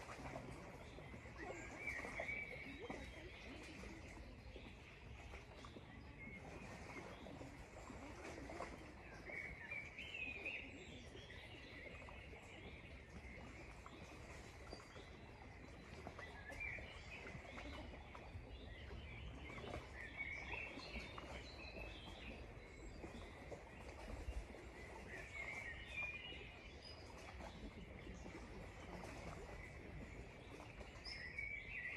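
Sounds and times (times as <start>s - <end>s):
wild birds chirping faintly: 0.0s - 31.9s.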